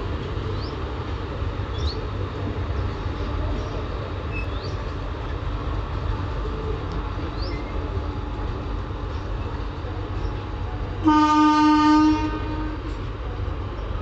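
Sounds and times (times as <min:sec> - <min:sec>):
train rumbling at platform: 0:00.0 - 0:14.0.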